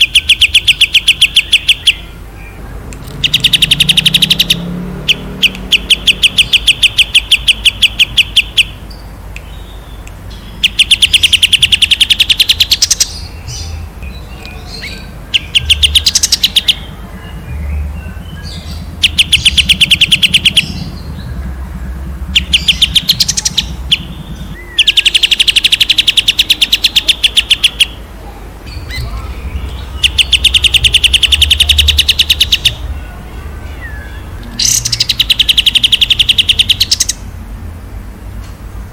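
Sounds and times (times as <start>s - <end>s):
songbird rapid repeated notes: 0.0s - 37.4s.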